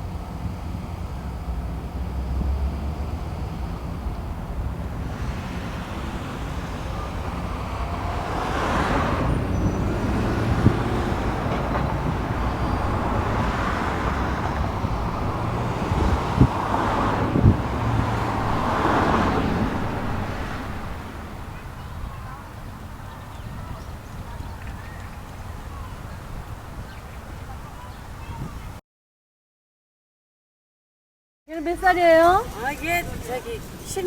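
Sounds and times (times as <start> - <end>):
road traffic rumble: 0.0 - 28.8, 31.5 - 34.0
vehicles passing: 0.0 - 28.8, 31.5 - 34.0.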